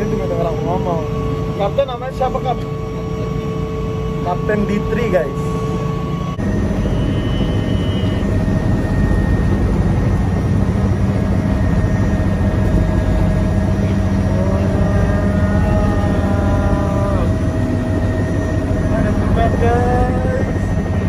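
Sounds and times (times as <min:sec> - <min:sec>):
helicopter turbine and rotor drone: 0:00.0 - 0:21.0.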